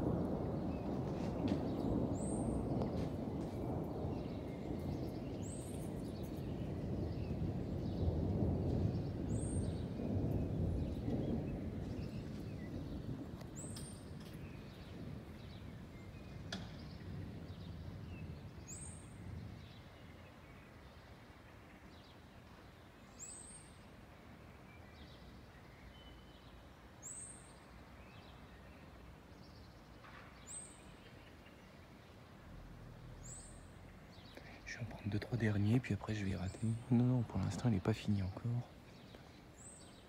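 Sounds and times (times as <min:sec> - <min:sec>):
distant thunder rumble: 0:00.0 - 0:25.6, 0:27.7 - 0:40.0.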